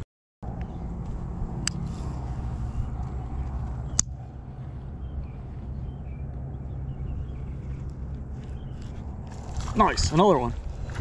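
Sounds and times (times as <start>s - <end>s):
low rumble: 0.4s - 11.0s.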